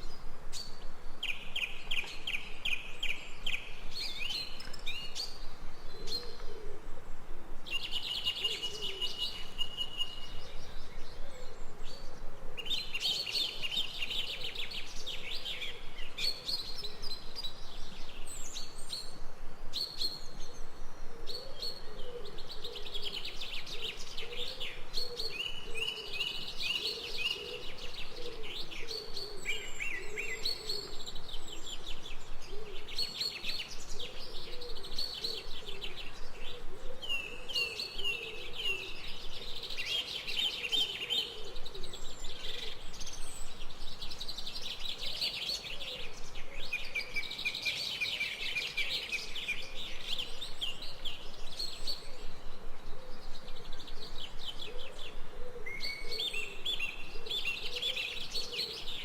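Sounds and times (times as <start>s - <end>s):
birds chirping and trilling: 7.7s - 59.0s.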